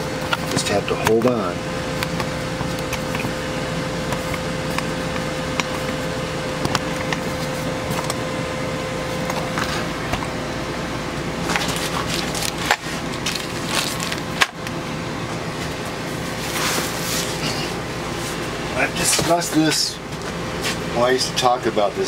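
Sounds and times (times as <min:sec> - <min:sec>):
air conditioner whooshing: 0:00.0 - 0:22.0.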